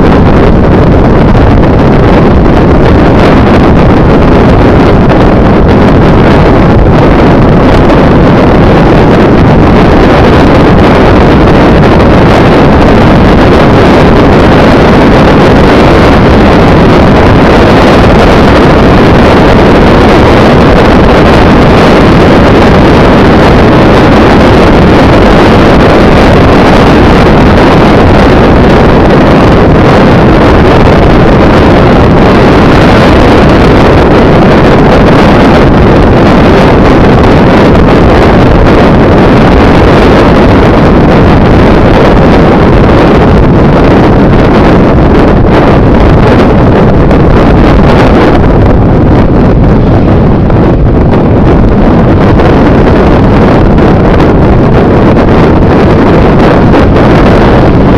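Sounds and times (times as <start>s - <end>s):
engine drone: 0.0s - 57.9s
wind buffeting microphone: 0.0s - 57.9s.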